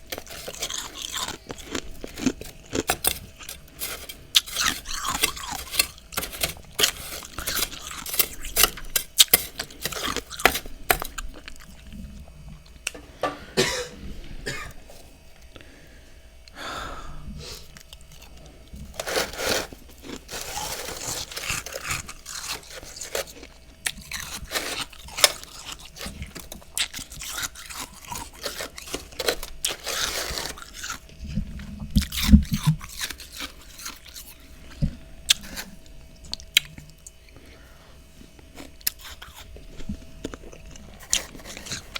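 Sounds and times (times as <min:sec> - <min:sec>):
crunching and chewing frost: 0:00.0 - 0:13.0, 0:17.4 - 0:41.9.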